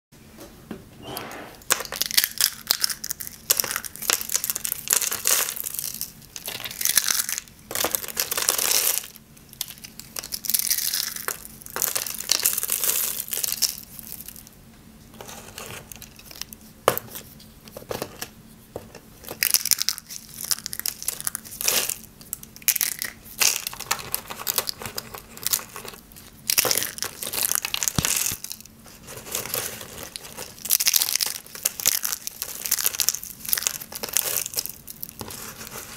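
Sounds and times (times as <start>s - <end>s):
soap curls crunching: 1.6s - 14.5s, 19.4s - 35.9s.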